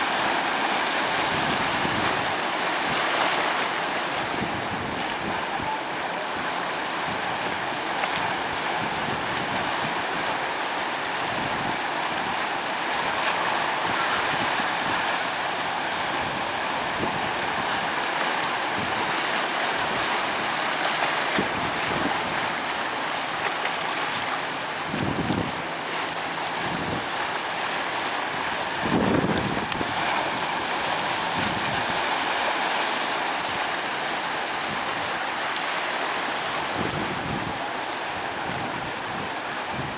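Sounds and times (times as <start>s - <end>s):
surf washing on beach: 0.0s - 39.9s.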